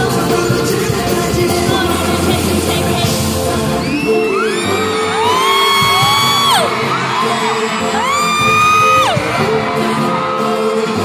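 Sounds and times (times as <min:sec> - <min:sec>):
live pop music over sound system: 0:00.0 - 0:11.0.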